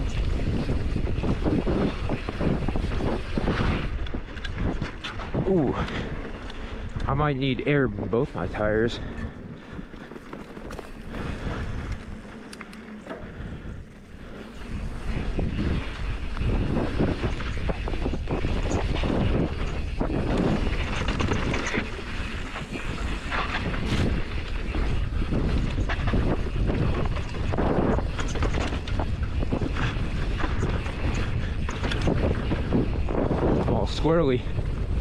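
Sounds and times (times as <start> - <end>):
bike clattering and rattling: 0.0 - 35.0
tyres rolling over loose dirt: 0.0 - 35.0
wind rushing over microphone: 0.0 - 35.0.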